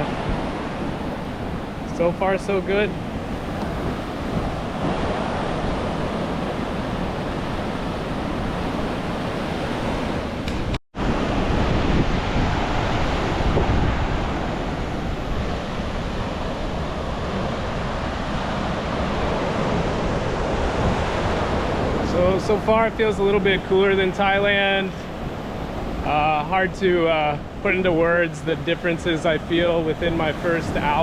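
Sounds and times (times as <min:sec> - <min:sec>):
ocean surf washing on beach: 0:00.0 - 0:31.0
wind buffeting microphone: 0:00.0 - 0:31.0.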